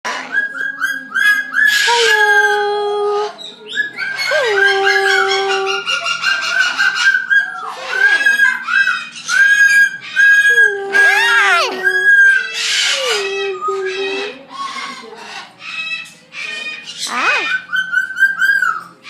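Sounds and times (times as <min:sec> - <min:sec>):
birds chirping: 0:00.1 - 0:19.0
birds whistling calls: 0:00.1 - 0:19.0.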